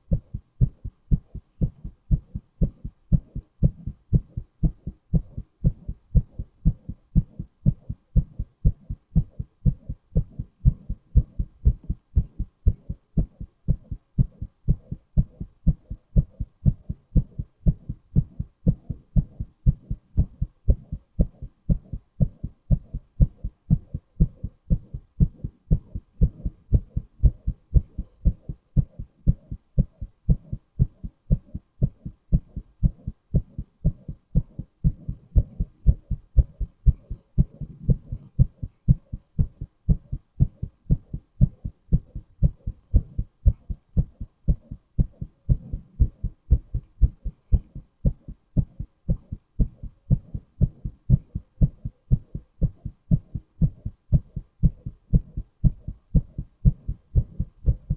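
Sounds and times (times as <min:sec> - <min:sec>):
heartbeat thumps: 0:00.0 - 0:57.9.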